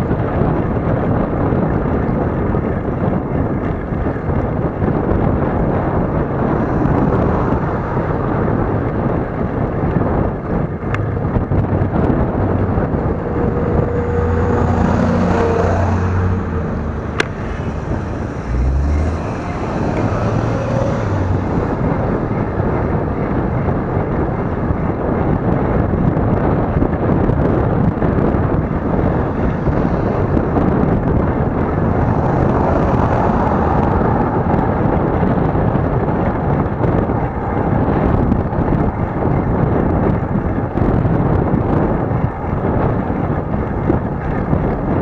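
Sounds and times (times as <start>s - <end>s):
wind buffeting microphone: 0.0s - 45.0s
car engine close by: 0.1s - 45.0s.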